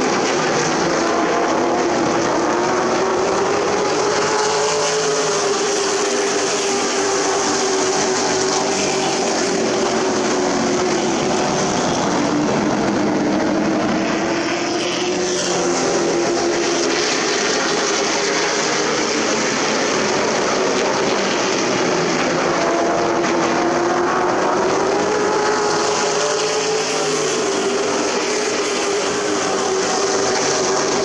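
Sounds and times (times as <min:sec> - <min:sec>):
race truck engines at speed: 0:00.0 - 0:31.0.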